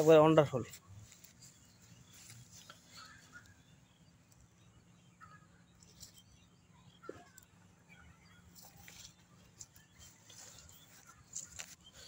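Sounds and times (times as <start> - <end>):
faint bird chirps: 0.6 - 12.0.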